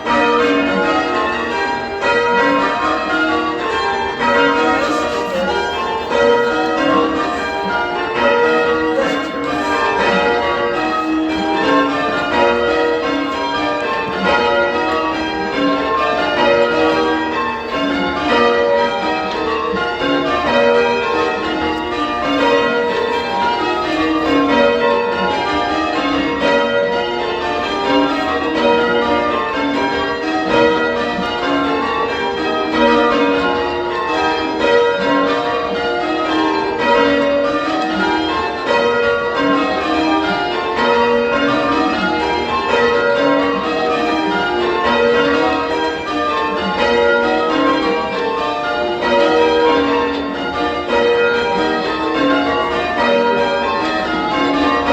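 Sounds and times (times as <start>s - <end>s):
church bells change ringing: 0.0s - 54.9s.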